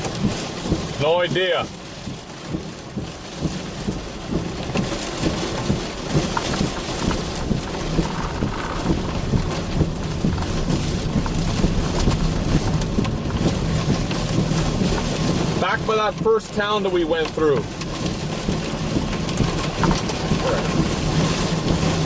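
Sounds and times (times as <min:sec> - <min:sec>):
rain pattering on vehicle body: 0:00.0 - 0:22.0
vehicle engine and road noise: 0:00.0 - 0:22.0.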